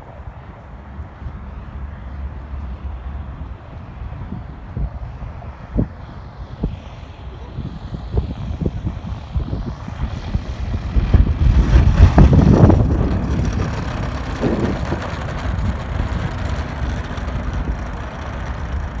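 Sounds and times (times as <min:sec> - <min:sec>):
model airplane engine: 0:00.0 - 0:19.0.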